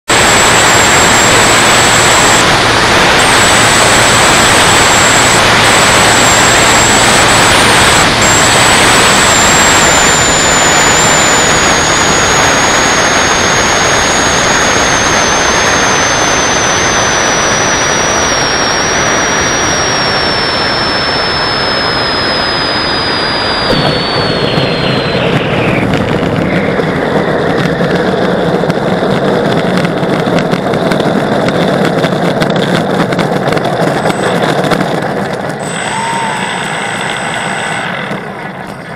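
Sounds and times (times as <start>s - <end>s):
model jet fan whine: 0.1s - 38.9s
rushing air: 0.1s - 38.9s
wheels rolling on runway: 0.2s - 38.9s.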